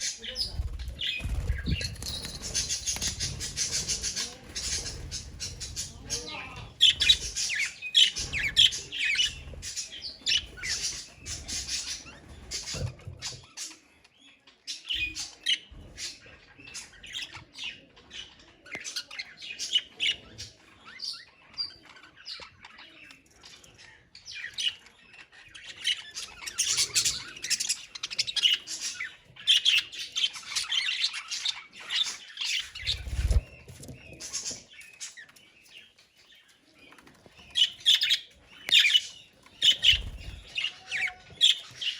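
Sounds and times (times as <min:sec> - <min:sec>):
budgerigars chattering and chirping: 0:00.0 - 0:41.9.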